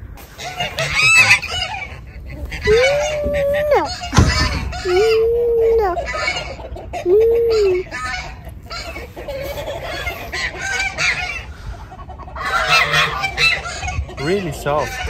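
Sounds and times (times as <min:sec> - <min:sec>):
geese honking: 0:00.0 - 0:05.2, 0:05.9 - 0:15.0
fowl clucking: 0:00.0 - 0:15.0.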